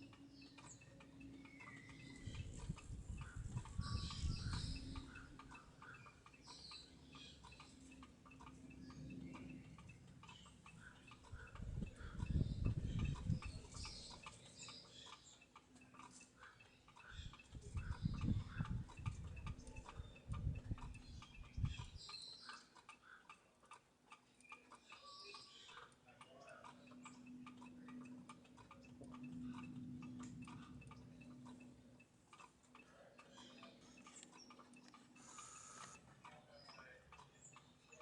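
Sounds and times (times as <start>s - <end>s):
low steady hum: 0.0s - 22.2s, 25.6s - 37.8s
small clicks and ticks: 0.0s - 38.0s.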